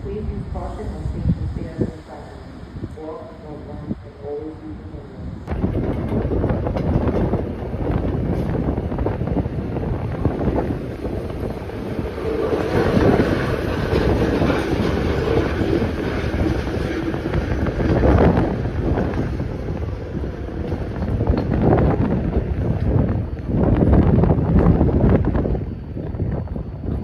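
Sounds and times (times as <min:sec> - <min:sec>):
subway train running on tracks: 0:00.0 - 0:27.0
wind buffeting microphone: 0:00.0 - 0:27.0.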